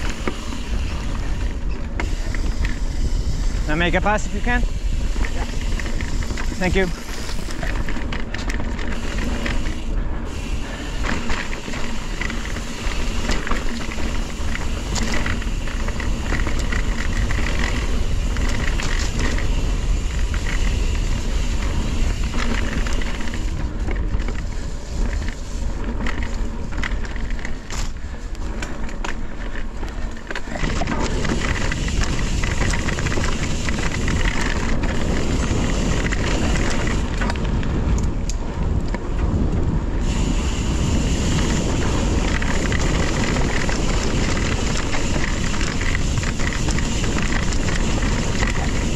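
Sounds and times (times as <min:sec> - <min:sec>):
bike rattling and knocking: 0:00.0 - 0:48.9
tyre and wind noise: 0:00.0 - 0:48.9.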